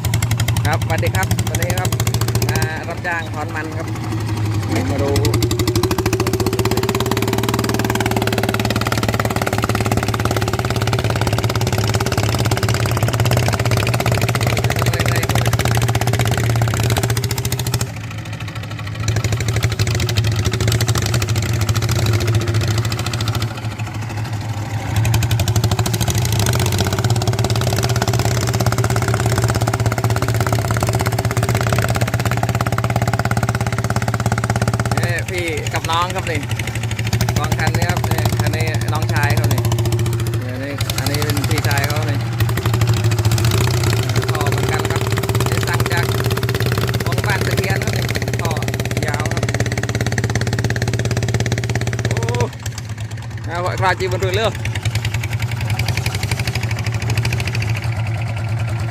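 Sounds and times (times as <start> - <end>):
walk-behind tractor engine running: 0.0 - 58.9.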